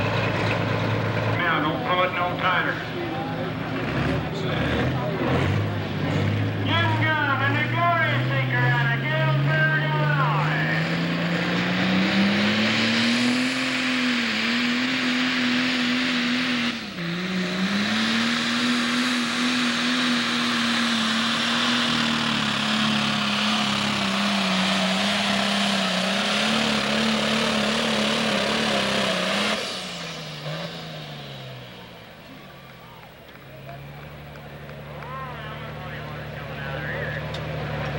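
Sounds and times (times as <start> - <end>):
diesel engine at full throttle: 0.0 - 37.9.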